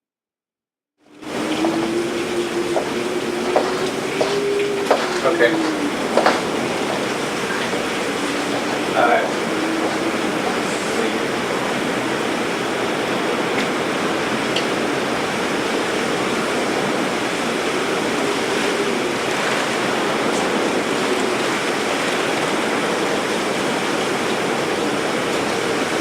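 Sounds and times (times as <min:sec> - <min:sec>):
heavy rain: 0:01.0 - 0:26.0
wind: 0:01.0 - 0:26.0.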